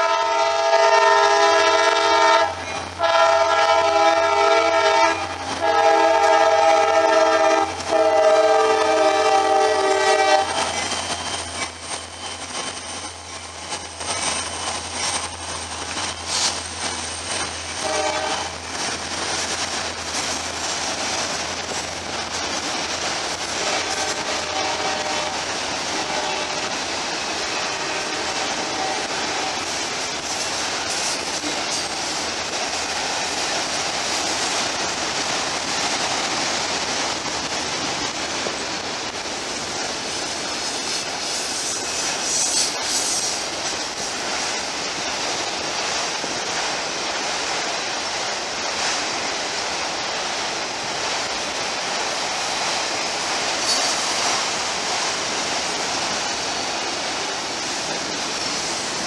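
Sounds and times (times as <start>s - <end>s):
freight cars rumbling on rails: 0.0s - 59.0s.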